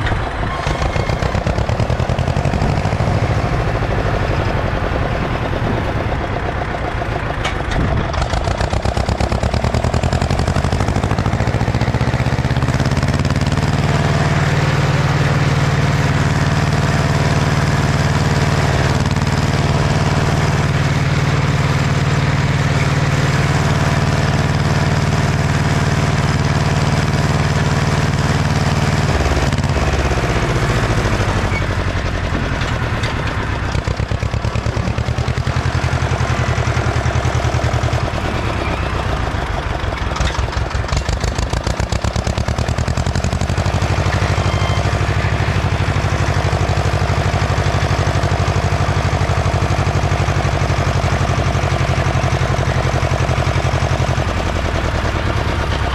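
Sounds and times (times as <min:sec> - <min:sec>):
tractor diesel engine chugging: 0:00.0 - 0:55.9.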